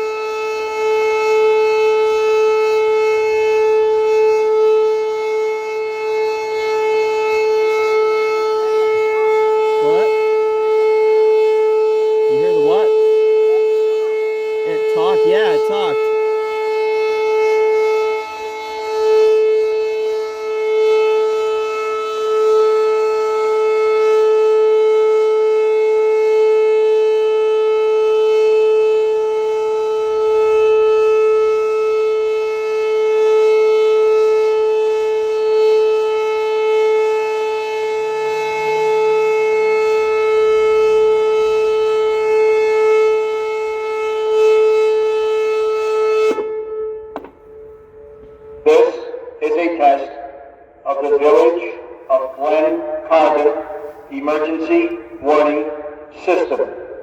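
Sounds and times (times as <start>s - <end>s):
tornado warning siren: 0.0s - 57.0s.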